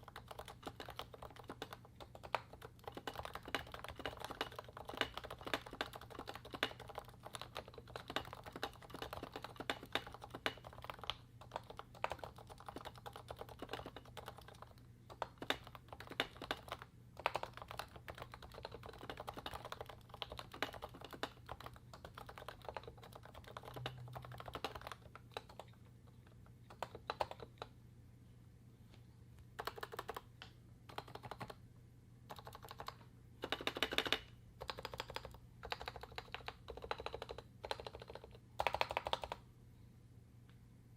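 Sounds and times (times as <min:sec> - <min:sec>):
keyboard typing: 0:00.0 - 0:27.8, 0:29.6 - 0:31.6, 0:32.3 - 0:39.4
steady low hum: 0:00.0 - 0:40.9.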